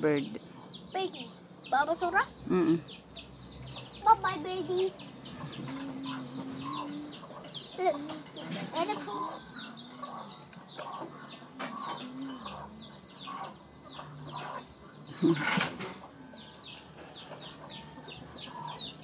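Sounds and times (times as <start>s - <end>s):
birds chirping: 0.0s - 19.0s
chickens clucking: 0.0s - 19.0s.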